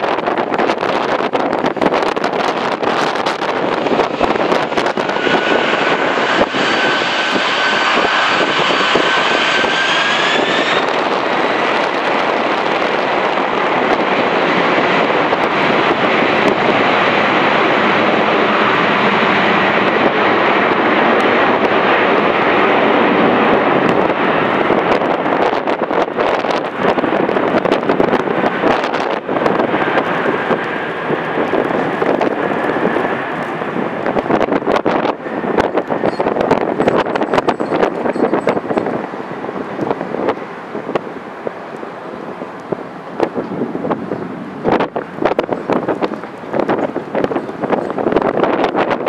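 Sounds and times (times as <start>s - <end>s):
jet engine roar with whine: 0.0s - 49.0s.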